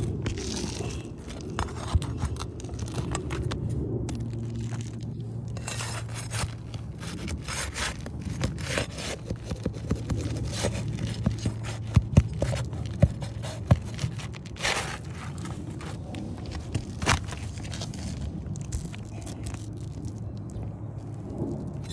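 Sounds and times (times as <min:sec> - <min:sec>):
shingles scraping: 0:00.0 - 0:20.2.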